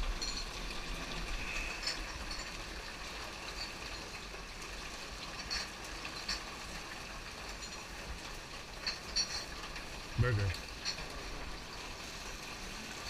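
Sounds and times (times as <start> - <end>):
flood water rushing: 0.0 - 13.0.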